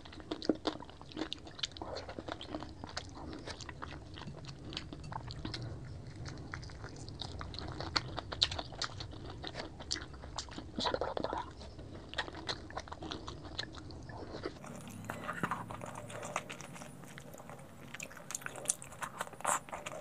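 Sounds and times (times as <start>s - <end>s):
chewing food with mouth clicks: 0.0s - 20.0s.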